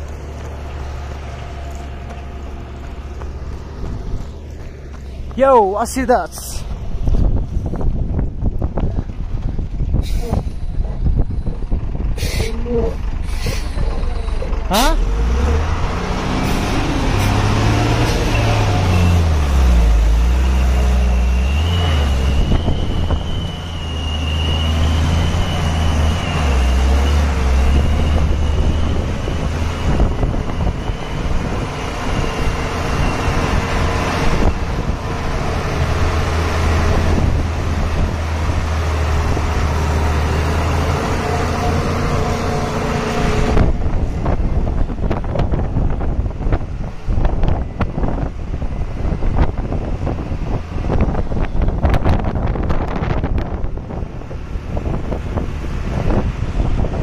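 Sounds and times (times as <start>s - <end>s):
truck engine under load: 0.0s - 57.0s.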